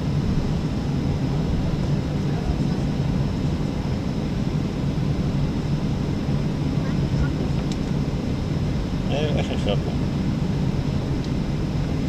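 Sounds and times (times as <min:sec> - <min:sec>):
airplane cabin rumble and hum: 0:00.0 - 0:12.0.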